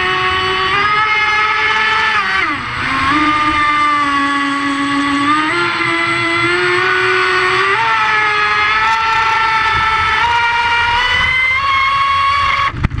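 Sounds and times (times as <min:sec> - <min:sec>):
high-pitched boat motor: 0:00.0 - 0:13.0.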